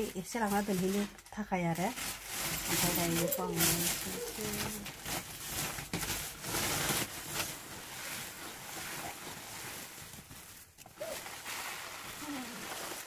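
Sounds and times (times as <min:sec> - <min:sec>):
plastic sack rustling: 0:00.0 - 0:13.0.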